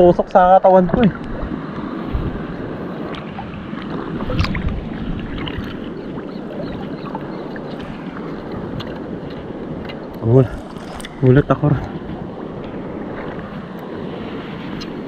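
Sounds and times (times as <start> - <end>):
sea water rushing: 0.0 - 15.0
wind: 0.0 - 15.0.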